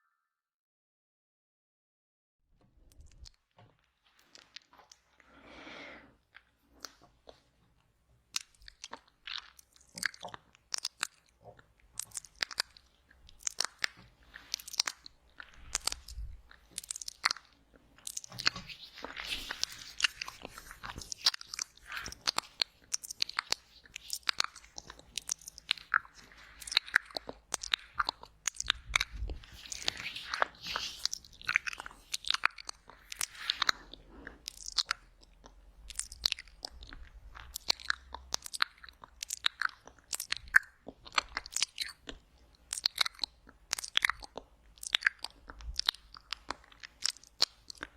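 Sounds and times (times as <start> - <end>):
wet mouth clicks and smacks: 2.9 - 3.4, 6.3 - 7.5, 8.3 - 47.9.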